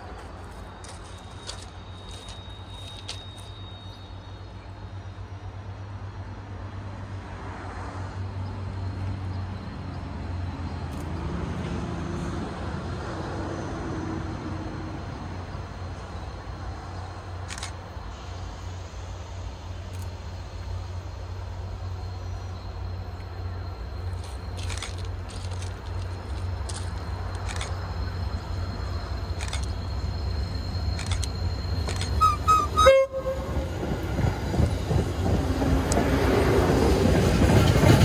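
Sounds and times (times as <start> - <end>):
distant diesel locomotive rumble: 0.0 - 38.0.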